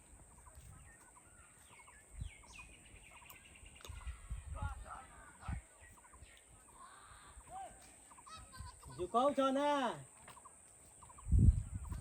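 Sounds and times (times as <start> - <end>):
faint outdoor background noise: 0.0 - 12.0
small birds chirping: 0.0 - 12.0.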